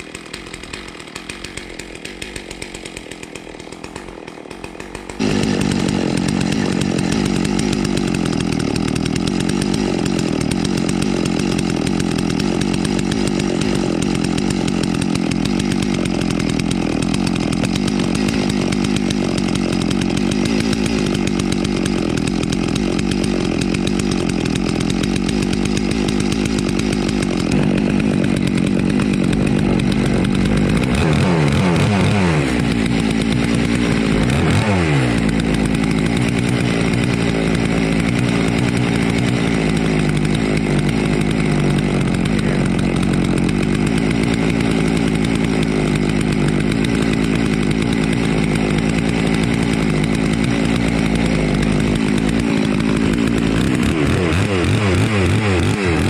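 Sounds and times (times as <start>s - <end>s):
chainsaw engine running: 0.0s - 56.0s.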